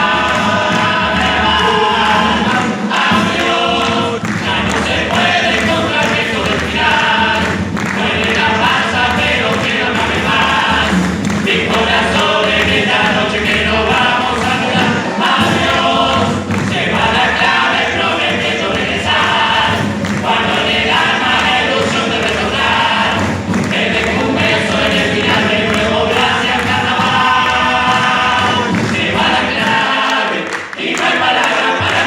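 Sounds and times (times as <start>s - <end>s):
many voices singing: 0.0s - 32.0s
music: 0.0s - 32.0s.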